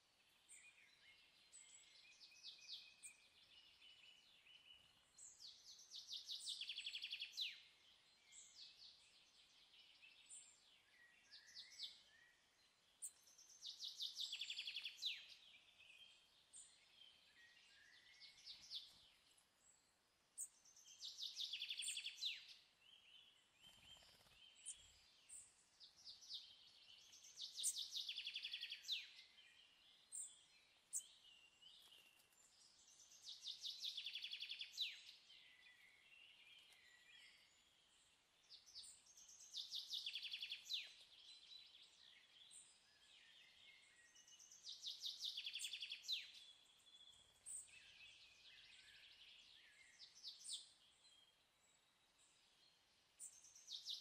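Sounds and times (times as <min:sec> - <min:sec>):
bird chirps: 0:00.4 - 0:19.8, 0:20.4 - 0:54.0.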